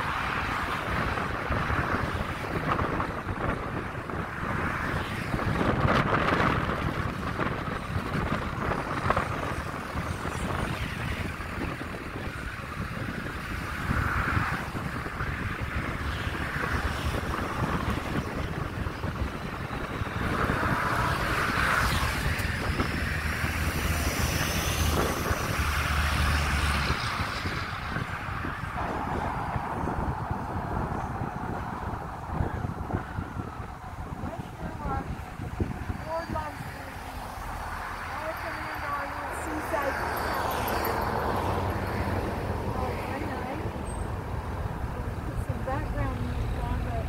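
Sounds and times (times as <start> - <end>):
road and tyre noise: 0.0 - 47.0
wind buffeting microphone: 0.0 - 47.0.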